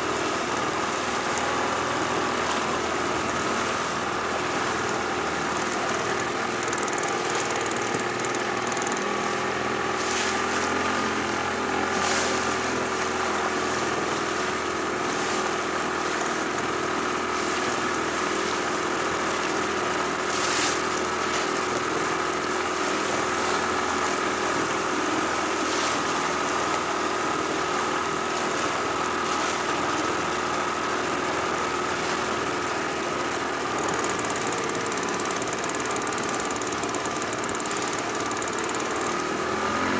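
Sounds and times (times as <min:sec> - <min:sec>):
small outboard motor running: 0:00.0 - 0:39.9.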